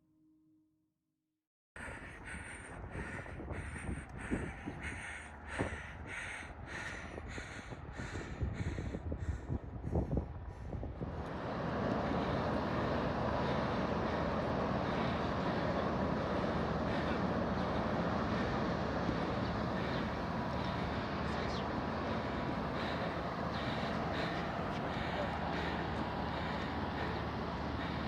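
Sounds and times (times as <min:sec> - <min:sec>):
mechanical rumble with hum: 0:01.8 - 0:28.0.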